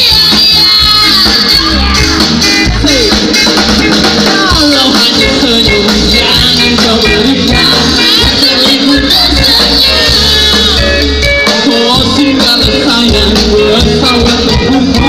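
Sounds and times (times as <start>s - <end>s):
band playing pop song: 0.0s - 15.0s.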